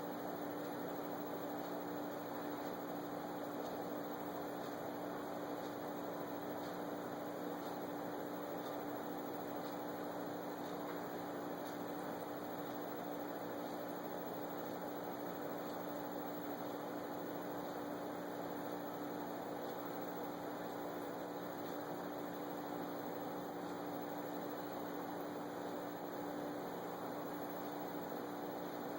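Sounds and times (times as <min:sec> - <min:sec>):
steady electrical hum: 0:00.0 - 0:28.9.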